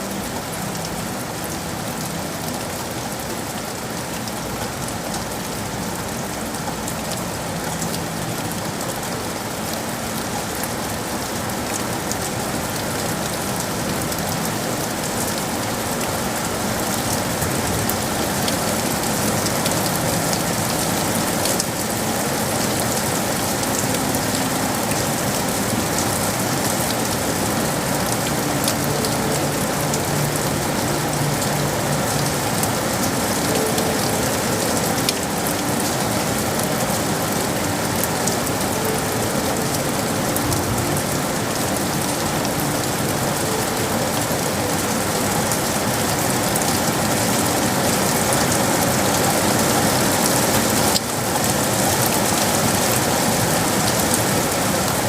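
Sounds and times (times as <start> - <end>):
dense rain falling: 0.0 - 55.0.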